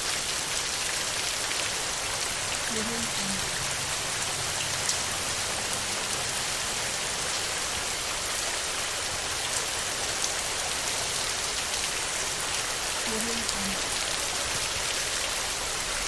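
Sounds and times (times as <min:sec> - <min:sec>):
heavy rain on a metal roof: 0:00.0 - 0:16.0.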